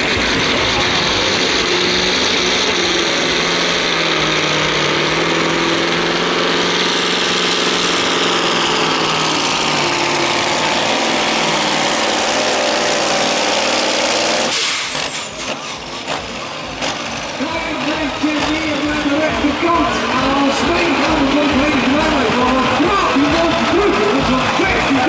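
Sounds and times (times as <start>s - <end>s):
diesel truck engine at high revs: 0.0s - 25.0s.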